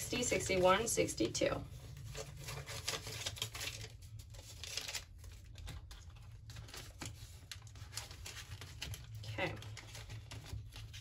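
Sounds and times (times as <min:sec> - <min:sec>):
banknotes rustling: 0:00.1 - 0:11.0
plastic envelope crinkling: 0:00.1 - 0:11.0.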